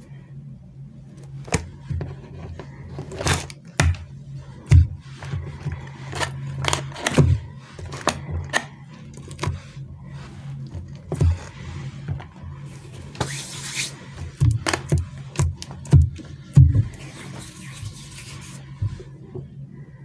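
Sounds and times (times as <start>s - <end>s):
rubbing and scraping: 1.3s - 19.5s.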